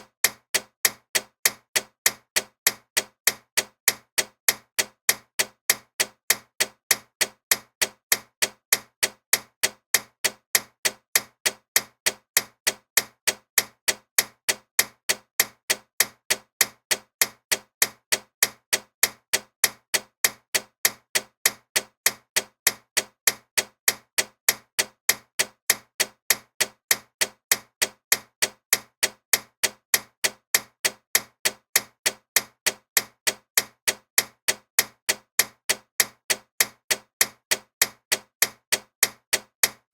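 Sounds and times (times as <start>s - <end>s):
mechanical clock ticking: 0.2s - 39.9s.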